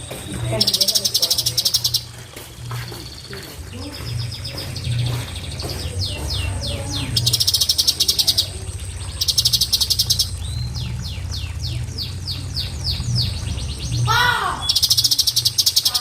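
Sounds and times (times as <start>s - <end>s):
bird fast rattling trills: 0.0s - 16.0s
bird whistling falling notes: 0.0s - 16.0s
low hum: 0.0s - 16.0s.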